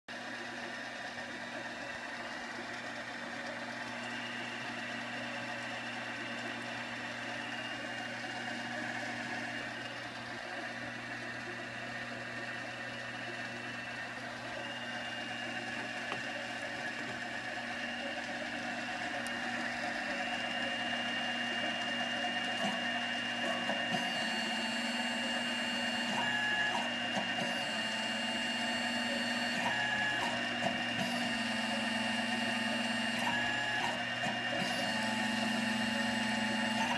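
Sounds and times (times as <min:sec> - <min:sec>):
lathe motor hum with whine: 0:00.1 - 0:36.9
stepper drive whine: 0:00.1 - 0:36.9.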